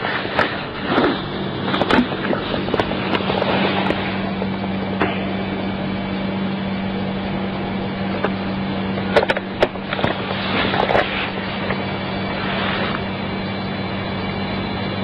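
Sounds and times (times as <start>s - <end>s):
recording hiss and hum: 0.0s - 15.0s.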